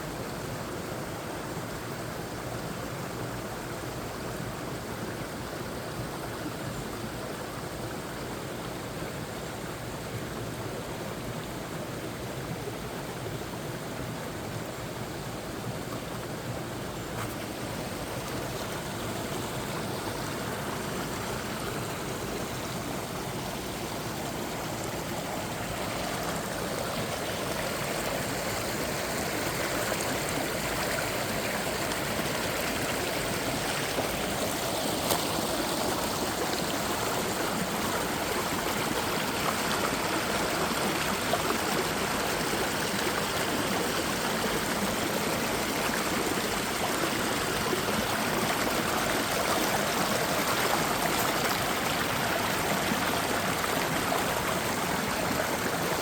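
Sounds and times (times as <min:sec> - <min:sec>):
stream rushing water: 0:00.0 - 0:56.0.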